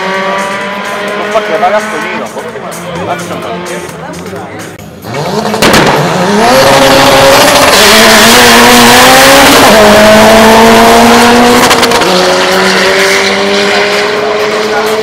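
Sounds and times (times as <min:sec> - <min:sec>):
car accelerating at full throttle: 0:00.0 - 0:15.0.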